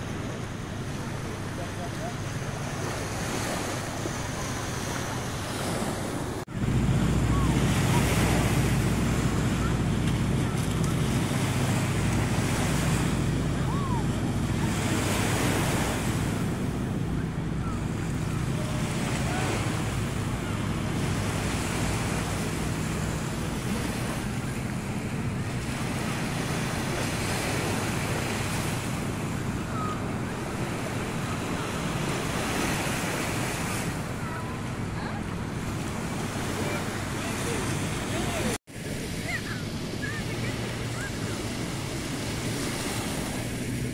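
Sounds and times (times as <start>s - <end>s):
waves breaking on shore: 0.0s - 43.9s.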